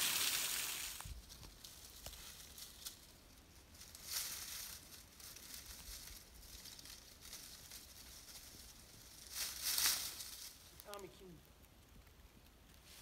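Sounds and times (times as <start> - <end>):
dry leaves rustling: 0.0 - 11.4.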